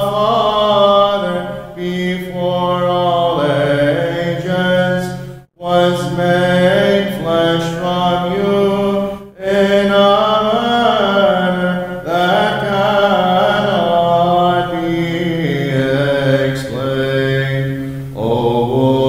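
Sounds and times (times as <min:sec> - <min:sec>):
voices singing liturgical chant: 0:00.0 - 0:19.0.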